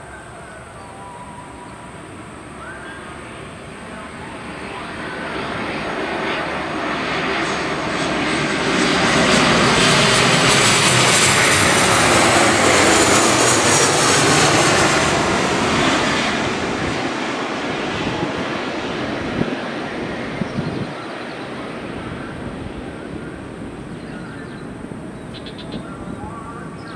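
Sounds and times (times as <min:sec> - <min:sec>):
jet airliner passing: 0:00.0 - 0:26.9.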